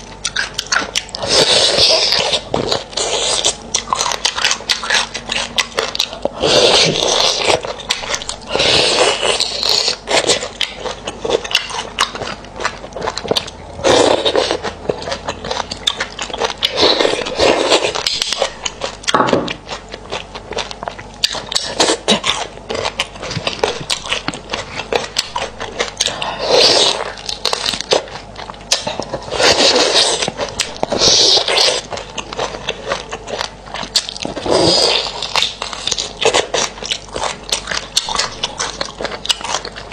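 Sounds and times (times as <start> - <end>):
wet chewing mouth sounds: 0.0 - 39.9.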